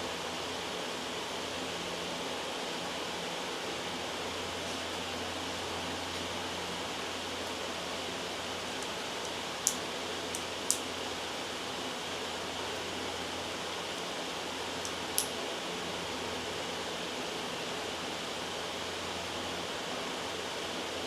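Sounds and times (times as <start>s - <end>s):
loud white noise hiss: 0.0s - 21.0s.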